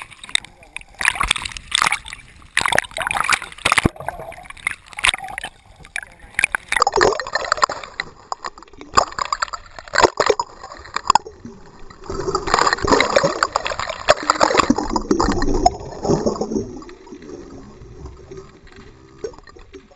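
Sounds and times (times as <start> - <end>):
rush of water: 0.0 - 19.5
underwater churning bubbling water: 0.0 - 19.9.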